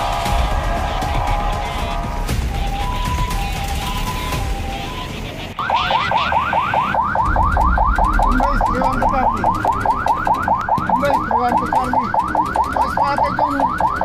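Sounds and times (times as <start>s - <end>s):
police siren fast yelp: 0.0s - 14.0s
two alternating siren tones: 1.3s - 14.0s.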